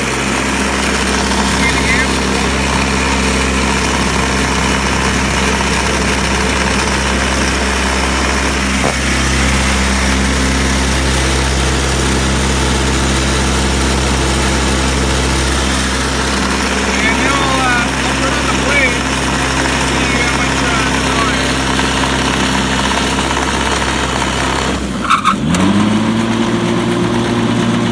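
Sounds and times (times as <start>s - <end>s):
electric motor humming: 0.0s - 25.0s.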